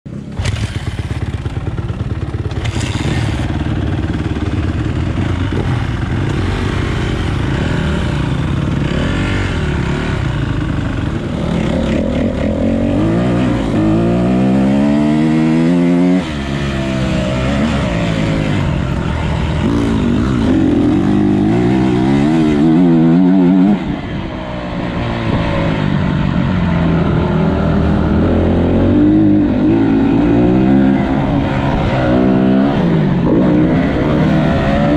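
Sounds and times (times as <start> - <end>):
motocross bike engine revving: 0.1 - 24.1, 24.8 - 34.9.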